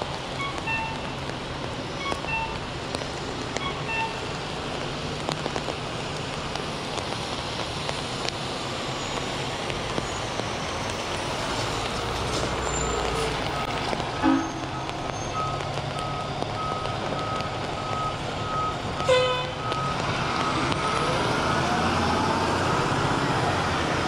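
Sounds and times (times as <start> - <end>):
city traffic: 0.0 - 24.0
rain pattering on an umbrella: 0.0 - 24.0.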